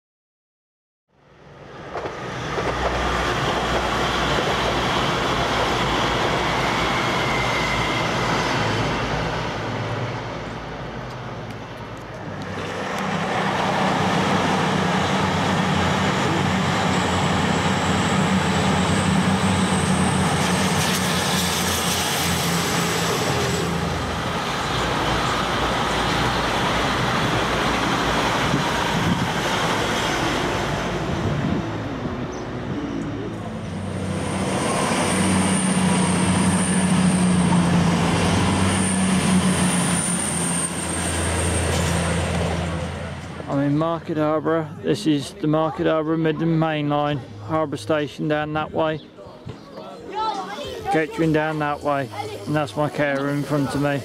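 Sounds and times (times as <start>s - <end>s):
trains passing at speed: 1.2s - 54.0s.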